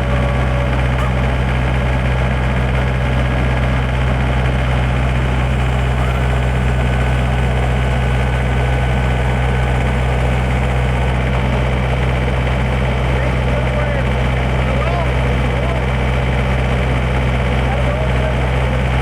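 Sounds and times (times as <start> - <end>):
backhoe diesel engine droning: 0.0 - 19.0.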